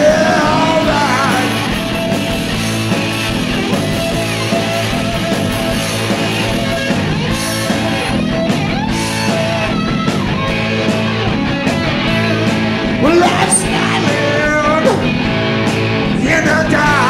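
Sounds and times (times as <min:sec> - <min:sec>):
bass guitar: 0:00.0 - 0:17.0
electric guitar: 0:00.0 - 0:17.0.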